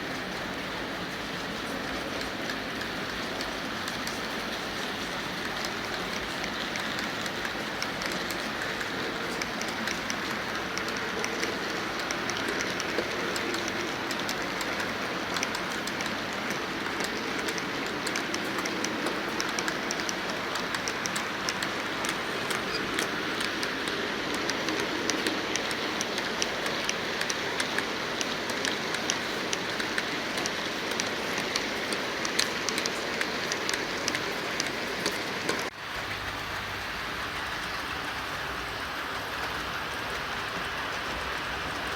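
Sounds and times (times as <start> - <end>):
freight train rumbling on rails: 0.0 - 41.9
wheels clicking over rail joints: 0.0 - 41.9.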